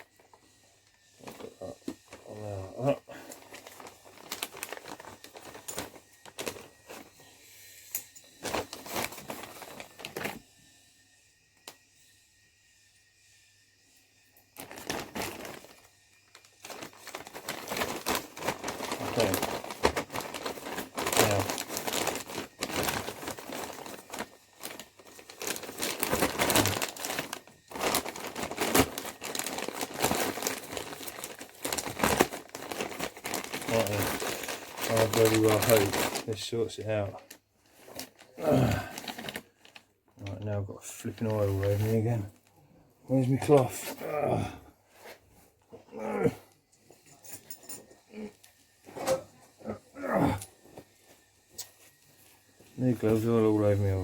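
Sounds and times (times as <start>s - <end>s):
rustling and crinkling wrapping: 0.0s - 7.4s, 8.3s - 10.4s, 14.6s - 44.3s, 46.8s - 54.0s.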